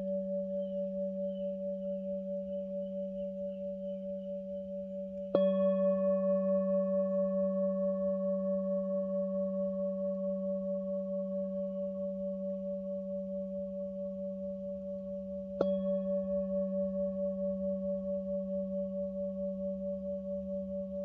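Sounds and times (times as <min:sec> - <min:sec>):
singing bowl struck and ringing: 0:00.0 - 0:21.0.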